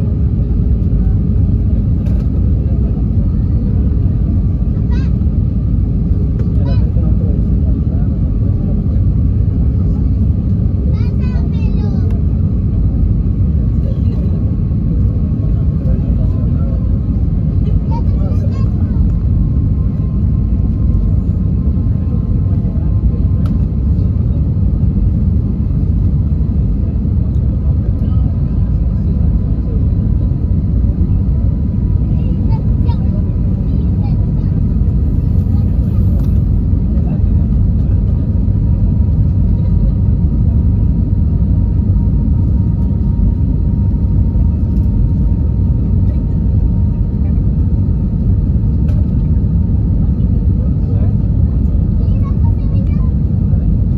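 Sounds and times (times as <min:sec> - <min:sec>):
airplane engines rumbling in cabin: 0:00.0 - 0:53.9.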